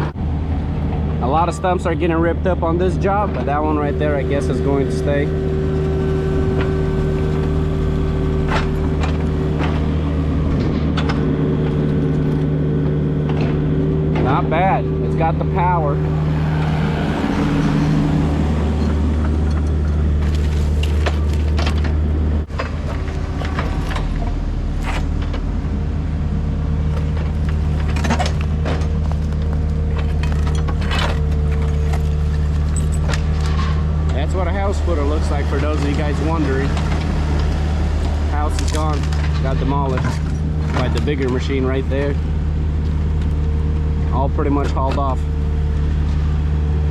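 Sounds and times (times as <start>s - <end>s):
diesel excavator engine running: 0.0s - 46.9s.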